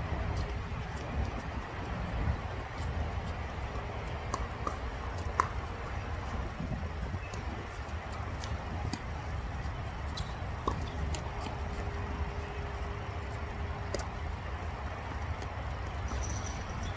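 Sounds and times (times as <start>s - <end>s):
outdoor background noise: 0.0s - 16.9s.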